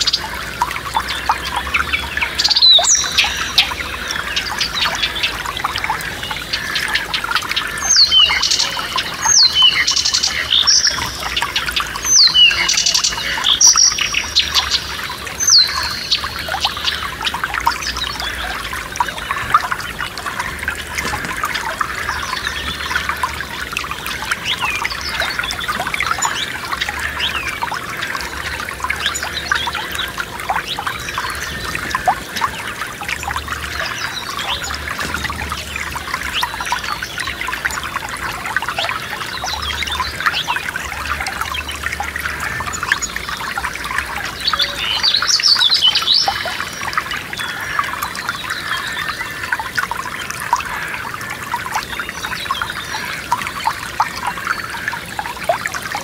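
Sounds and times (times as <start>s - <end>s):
birds singing: 0.0s - 56.0s
stream trickling: 0.0s - 56.0s.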